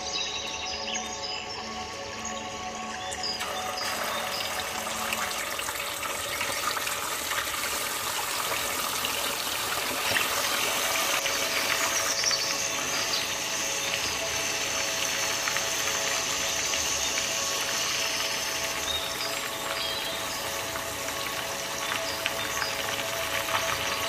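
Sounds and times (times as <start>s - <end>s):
fish frying in hot oil: 1.8s - 24.0s.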